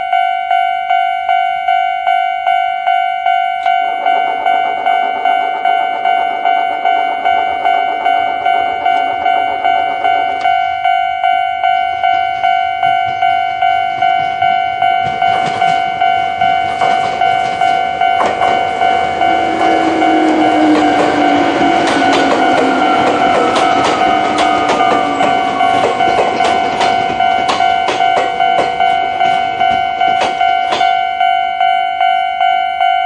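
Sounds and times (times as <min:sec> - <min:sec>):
level crossing warning bell: 0:00.0 - 0:33.0
train rumble: 0:02.1 - 0:33.0.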